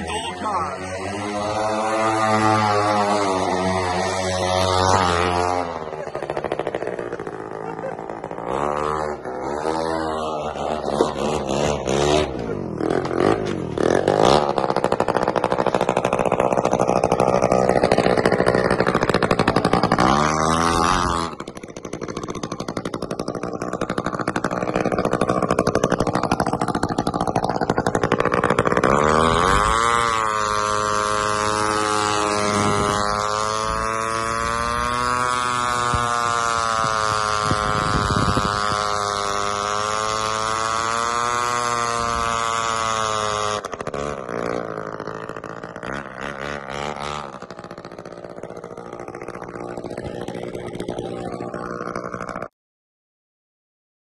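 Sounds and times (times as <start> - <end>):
small engine revving: 0.0 - 52.6.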